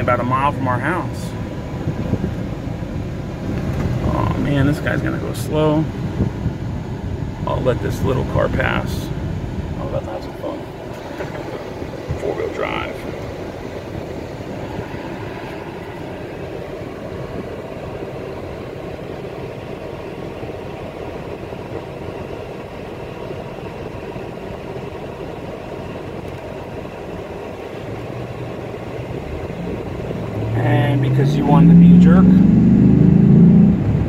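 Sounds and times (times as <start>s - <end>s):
low engine note: 0.0s - 34.0s.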